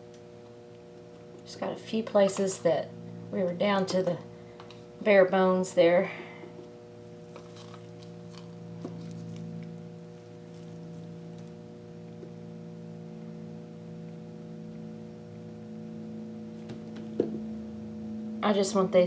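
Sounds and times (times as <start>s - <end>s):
low hum with tones: 0.0s - 19.0s.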